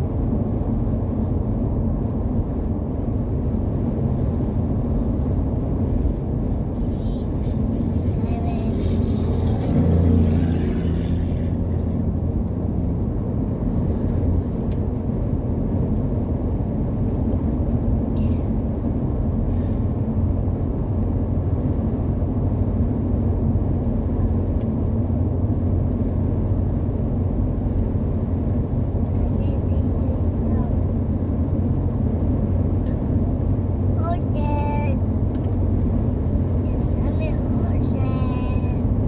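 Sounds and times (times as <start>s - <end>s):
road noise: 0.0s - 39.0s
truck engine running: 0.0s - 39.0s.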